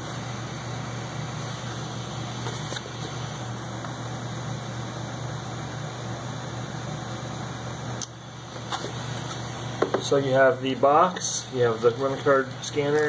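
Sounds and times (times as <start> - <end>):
room hum and hiss: 0.0 - 13.0.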